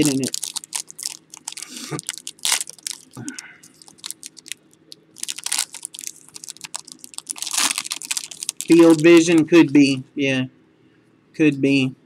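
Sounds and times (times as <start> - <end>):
plastic wrapping crinkling and tearing: 0.0 - 9.7.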